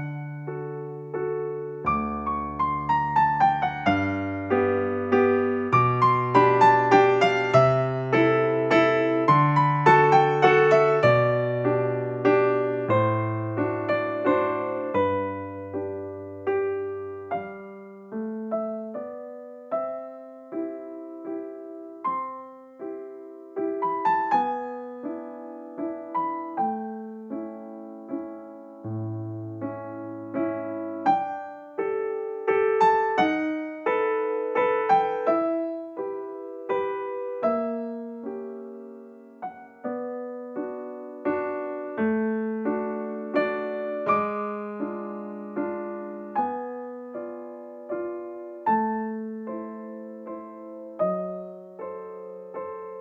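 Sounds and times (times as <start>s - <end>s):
gentle solo piano melody: 0.0s - 53.0s.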